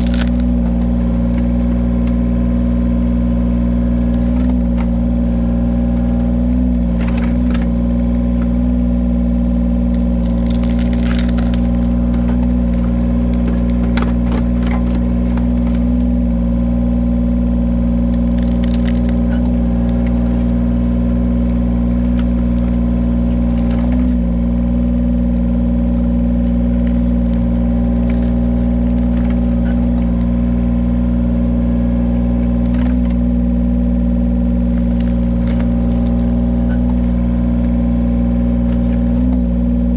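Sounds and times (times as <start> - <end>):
wood cracking and knocking: 0.0 - 16.6, 17.5 - 39.9
log splitter engine running: 0.0 - 39.9.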